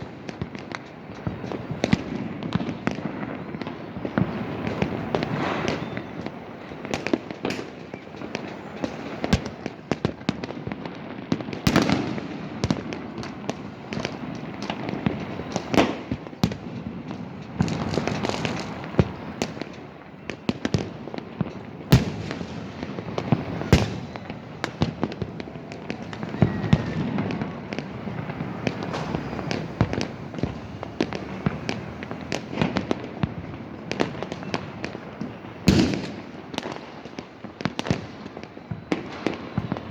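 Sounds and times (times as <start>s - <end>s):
firecracker crackle: 0.0s - 39.9s
fireworks bangs and cracks: 0.0s - 39.9s.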